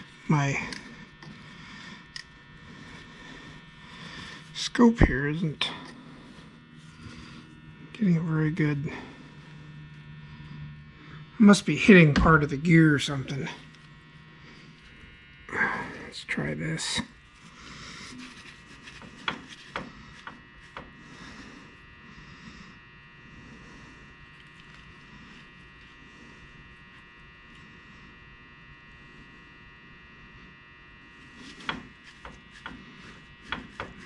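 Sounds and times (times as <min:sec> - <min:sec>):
steady electric hum: 0:00.0 - 0:34.0.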